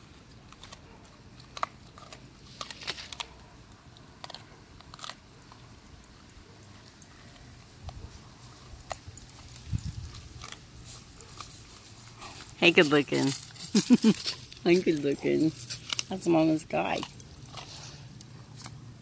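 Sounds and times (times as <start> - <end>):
dog crunching bones: 0.0 - 19.0.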